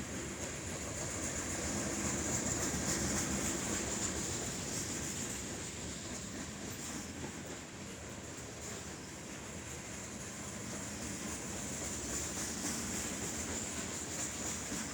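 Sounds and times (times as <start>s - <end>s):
freight train wheels on rails: 0.0s - 14.9s.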